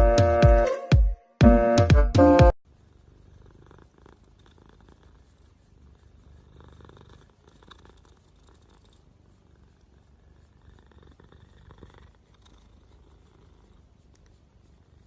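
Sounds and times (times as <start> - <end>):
cat purring: 2.7 - 15.0.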